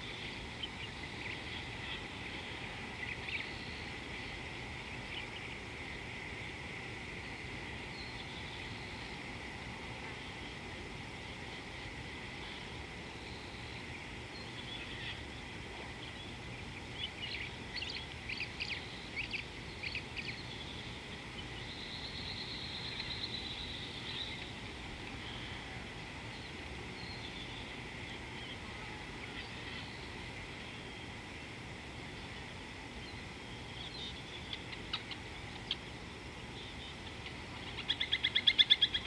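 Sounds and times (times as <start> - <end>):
wild birds calling: 0.0 - 39.0.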